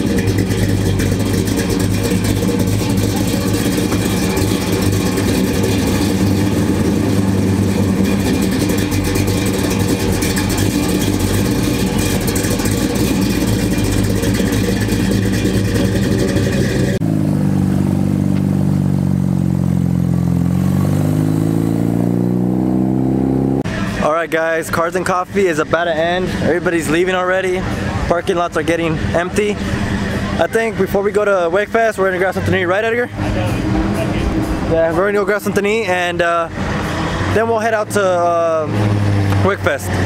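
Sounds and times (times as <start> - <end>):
car engine pitch dipping and climbing: 0.0 - 40.0
car engine rumbling past: 0.0 - 40.0.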